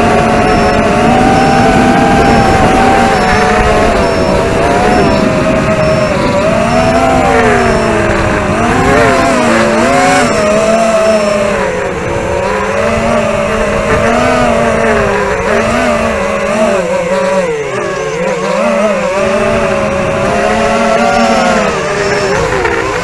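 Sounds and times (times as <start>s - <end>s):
quadcopter motors whining: 0.0s - 23.0s
wind rumble on microphone: 0.0s - 23.0s.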